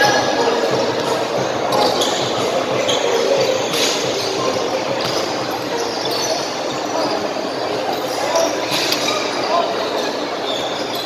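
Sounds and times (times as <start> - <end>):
hubbub of spectators: 0.0 - 11.0.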